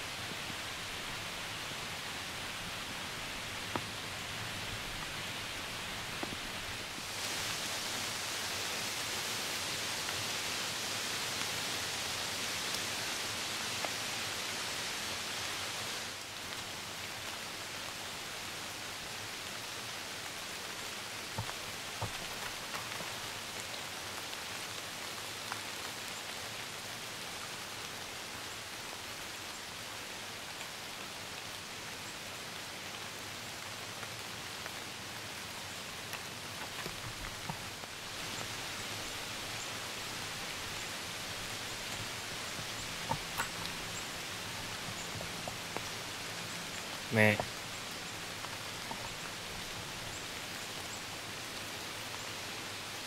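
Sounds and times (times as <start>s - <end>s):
rain on leaves: 0.0s - 53.0s.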